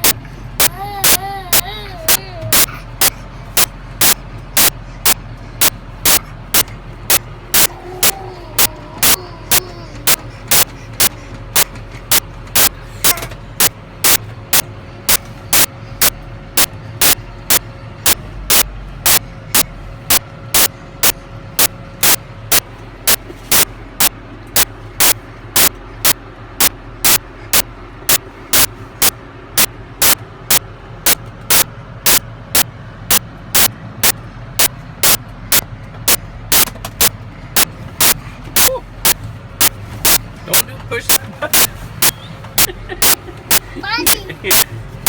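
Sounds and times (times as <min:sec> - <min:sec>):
farm machine engine droning: 0:00.0 - 0:45.0
loud sharp clicks: 0:02.1 - 0:09.2, 0:10.0 - 0:39.2.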